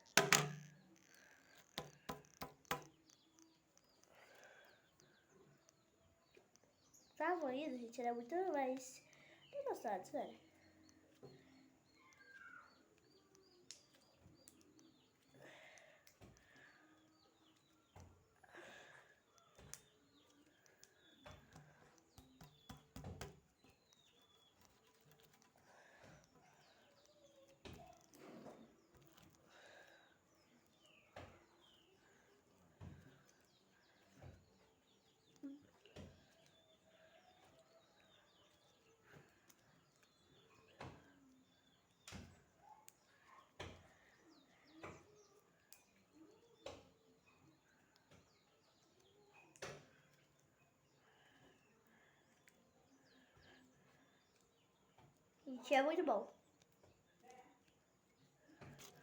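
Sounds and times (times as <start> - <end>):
faint bird chirps: 0.0 - 59.0.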